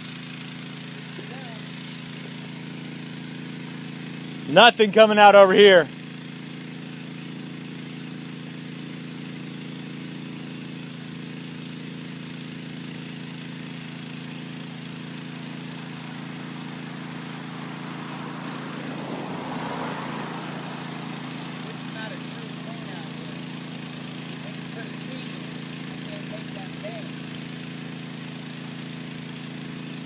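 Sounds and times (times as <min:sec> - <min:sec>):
small gasoline engine running: 0:00.0 - 0:30.0.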